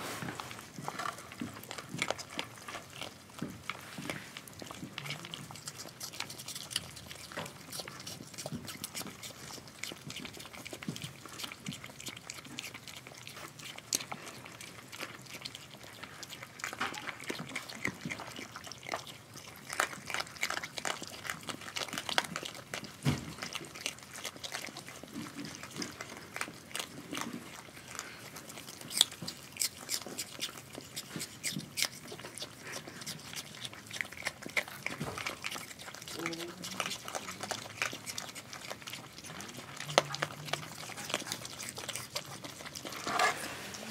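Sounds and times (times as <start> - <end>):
animals chewing and smacking food: 0.0 - 43.9.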